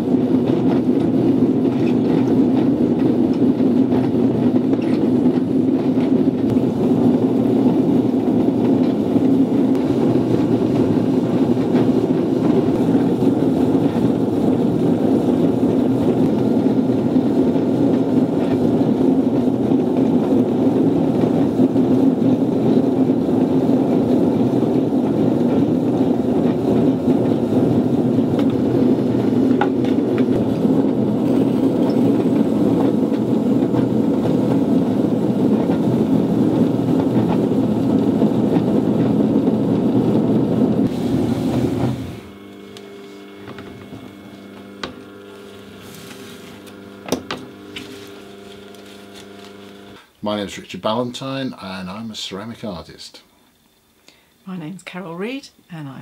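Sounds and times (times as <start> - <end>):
potter's wheel spinning: 0.0 - 50.1.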